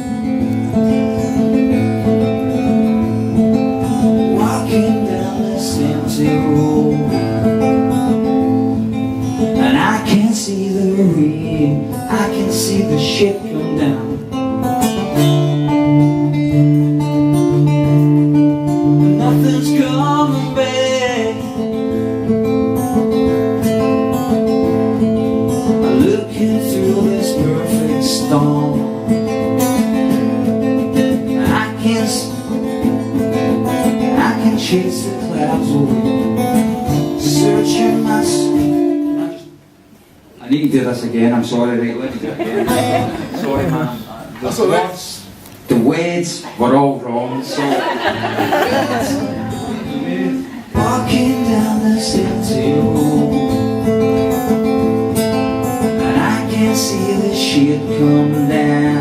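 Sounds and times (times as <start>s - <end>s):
acoustic guitar strumming: 0.0s - 40.2s, 42.4s - 59.0s.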